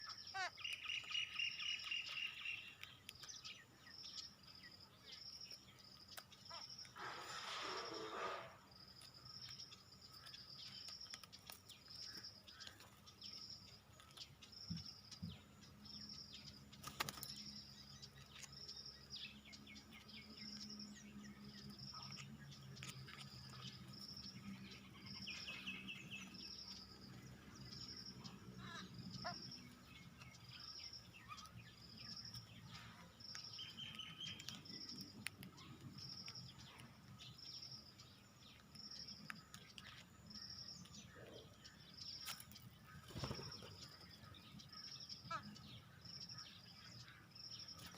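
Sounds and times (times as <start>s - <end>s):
bird chirps and trill: 0.0s - 47.9s
small birds alarm calls: 0.0s - 47.9s.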